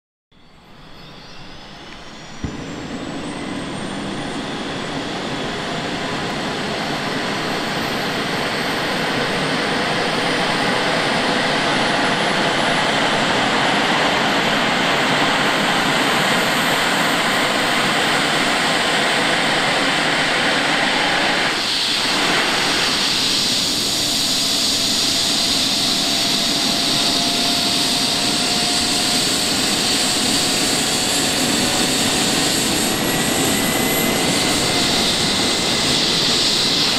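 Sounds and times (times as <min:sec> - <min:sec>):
helicopter rotor: 0:00.4 - 0:36.9
helicopter turbine whine: 0:00.4 - 0:36.9.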